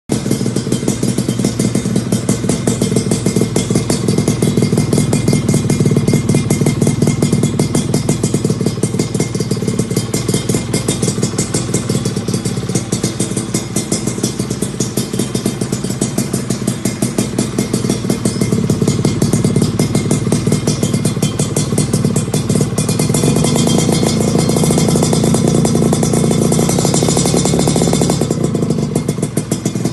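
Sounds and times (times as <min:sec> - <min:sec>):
two-stroke engine running: 0:00.1 - 0:29.9.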